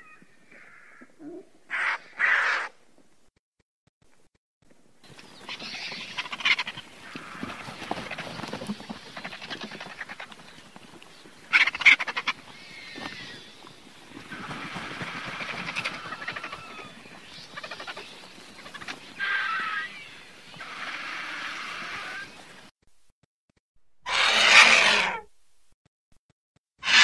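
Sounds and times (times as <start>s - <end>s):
vultures calling harshly: 0.0s - 2.8s, 5.1s - 22.5s, 24.0s - 25.3s, 26.8s - 27.0s.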